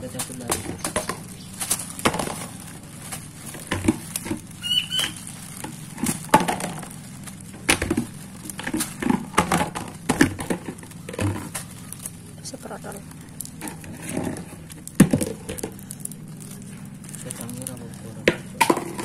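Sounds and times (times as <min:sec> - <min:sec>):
small clicks and crackles: 0:00.0 - 0:19.0.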